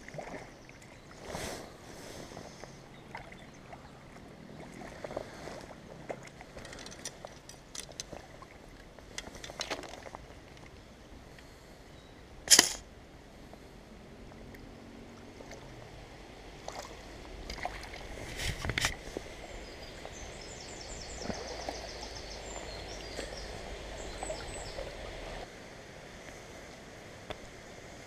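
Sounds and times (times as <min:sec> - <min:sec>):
river water running: 0:00.0 - 0:28.0.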